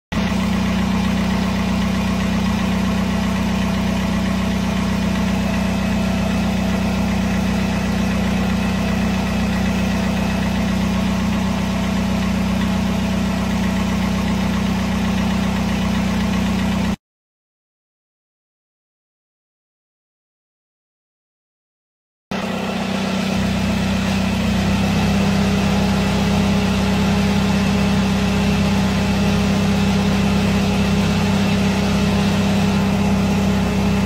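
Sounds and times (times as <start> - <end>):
car engine idling with knocking: 0.1 - 17.0, 22.3 - 34.0.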